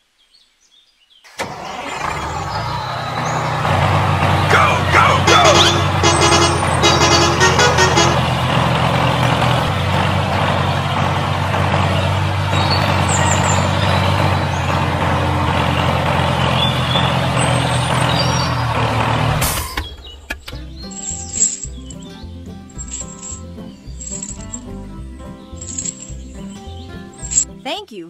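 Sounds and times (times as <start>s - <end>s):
heavy vehicle engine running: 1.3s - 27.6s.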